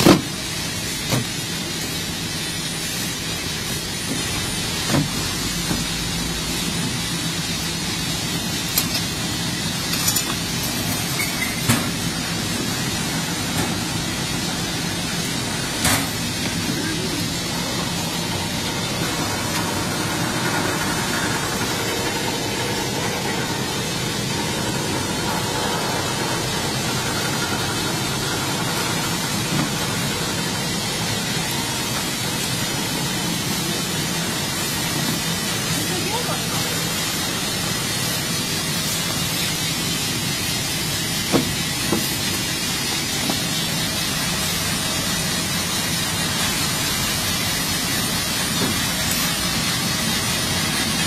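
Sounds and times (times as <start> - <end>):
box-making machine running: 0.0 - 51.0.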